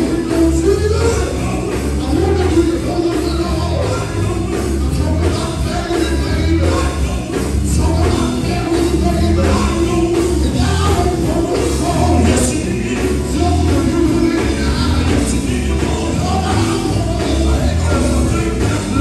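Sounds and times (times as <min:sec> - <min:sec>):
gospel band playing: 0:00.0 - 0:19.0
male singer with gospel band: 0:00.0 - 0:19.0.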